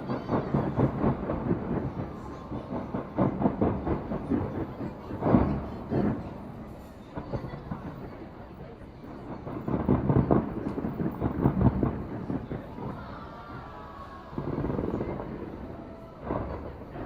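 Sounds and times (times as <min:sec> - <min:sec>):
fireworks popping and crackling: 0:00.0 - 0:17.0
loud firework bangs: 0:00.0 - 0:17.0.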